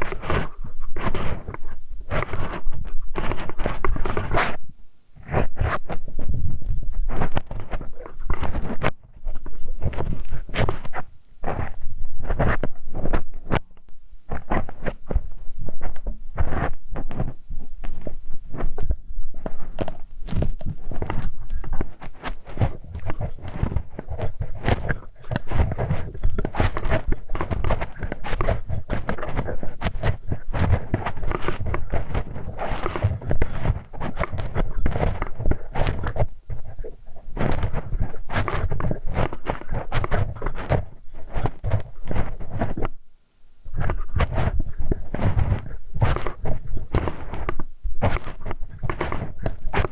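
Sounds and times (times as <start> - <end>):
tool scraping in microphone ear: 0.0 - 43.0, 43.7 - 49.9.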